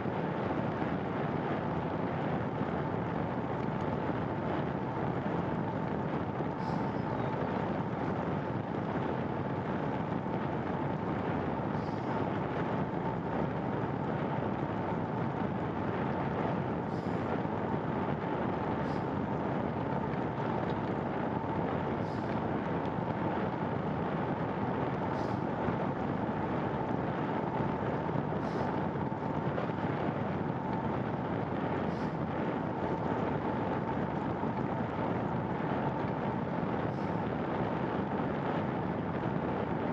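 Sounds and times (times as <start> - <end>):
bicycle road noise: 0.0 - 39.9
rushing wind: 0.0 - 39.9.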